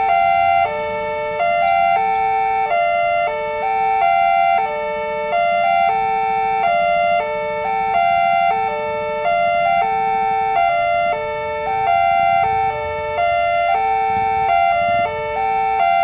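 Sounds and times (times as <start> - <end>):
level crossing warning chime: 0.0 - 16.0.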